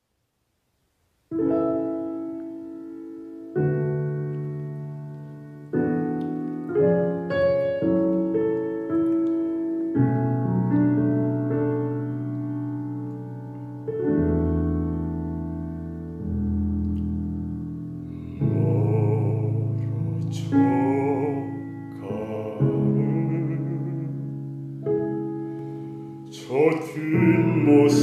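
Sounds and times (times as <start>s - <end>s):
piano playing slow chords: 1.3s - 28.0s.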